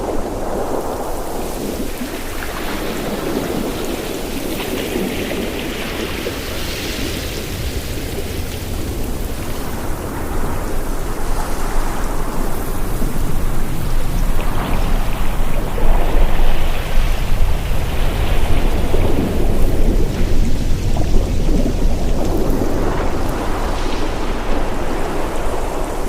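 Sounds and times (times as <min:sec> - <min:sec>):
deep surf rumble: 0:00.0 - 0:26.0
ocean surf rushing: 0:00.0 - 0:26.0.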